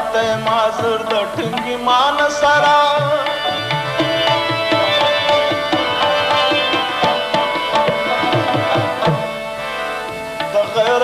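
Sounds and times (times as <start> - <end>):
tabla drumming: 0.0 - 11.0
melody of held notes: 1.6 - 11.0.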